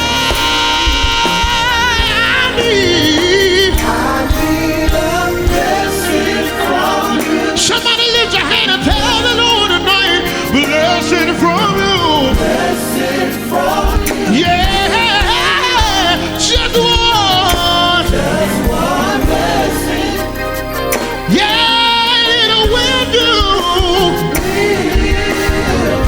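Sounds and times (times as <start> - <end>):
drum beat: 0.0 - 26.0
keyboard chords: 0.0 - 26.0
voices singing gospel: 0.0 - 26.0.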